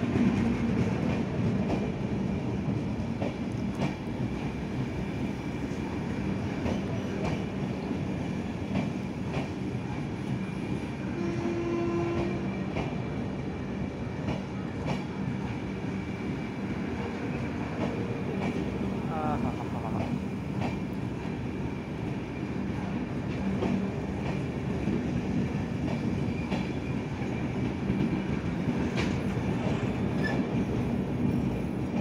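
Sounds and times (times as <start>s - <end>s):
train coaches rumbling past: 0.0s - 32.0s.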